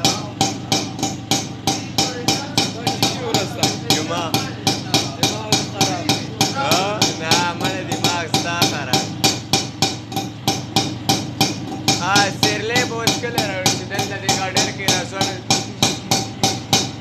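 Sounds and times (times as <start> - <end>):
auto-rickshaw engine popping: 0.0 - 17.0.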